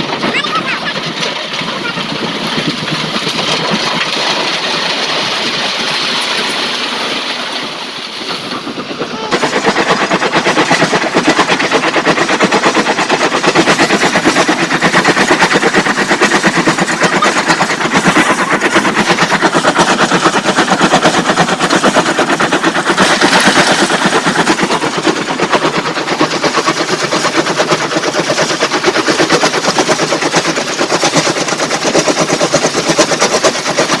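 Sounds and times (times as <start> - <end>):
heavy diesel machinery clattering: 0.0 - 34.0.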